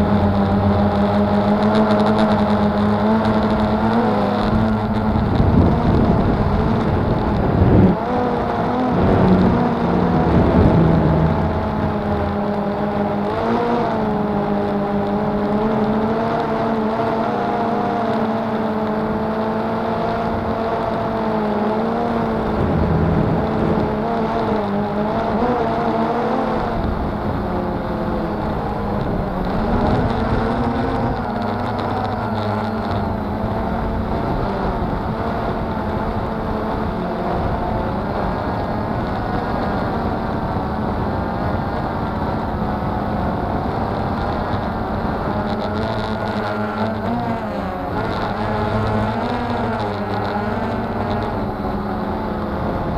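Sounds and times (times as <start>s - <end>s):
drone propellers whirring: 0.0s - 52.9s.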